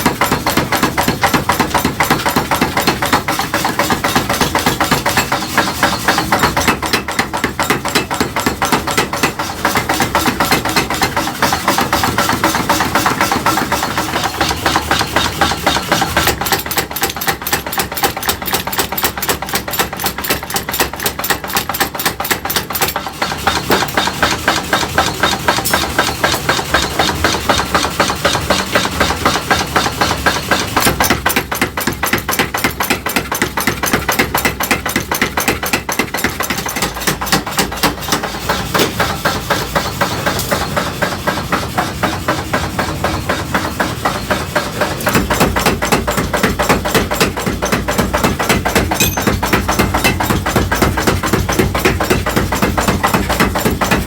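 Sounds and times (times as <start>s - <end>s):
hammering on metal: 0.0s - 54.0s.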